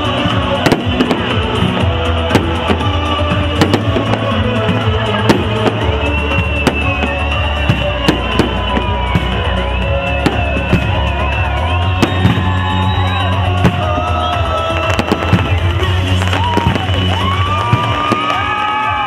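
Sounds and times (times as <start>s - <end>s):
fireworks bangs and cracks: 0.0s - 19.0s
loud music with drumbeat: 0.0s - 19.0s.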